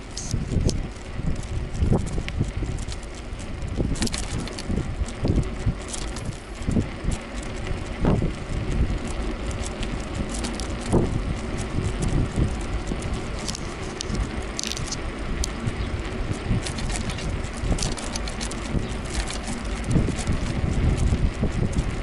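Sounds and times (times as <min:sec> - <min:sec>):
road rumble: 0:00.0 - 0:22.0
wind noise on microphone: 0:00.0 - 0:22.0.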